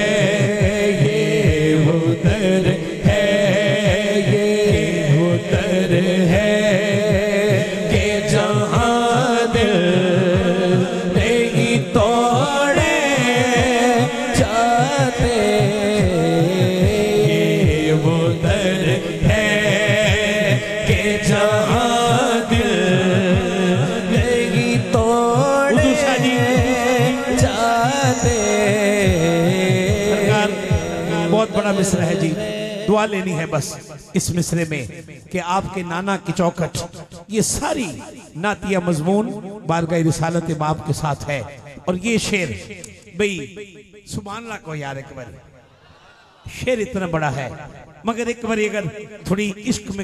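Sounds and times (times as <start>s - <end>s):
man singing into a microphone: 0.0s - 43.5s.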